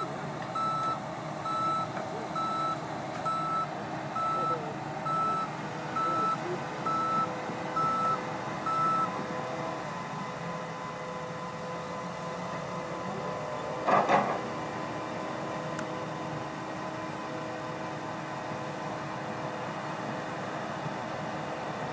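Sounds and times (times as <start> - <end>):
diesel engines droning: 0.0 - 21.9.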